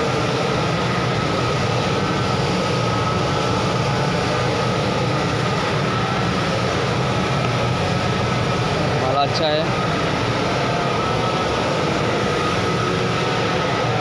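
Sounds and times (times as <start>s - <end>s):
thin steady whine: 0.0s - 14.0s
machine motor humming: 0.1s - 14.0s.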